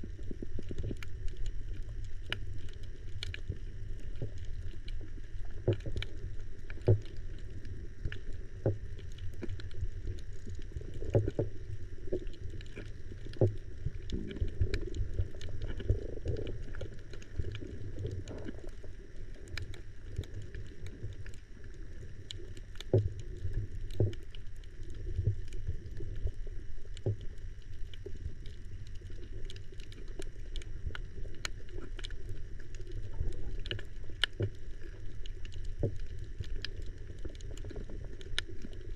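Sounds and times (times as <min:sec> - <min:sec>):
muffled underwater water rumble: 0:00.0 - 0:38.9
sharp underwater clicks: 0:00.2 - 0:38.9.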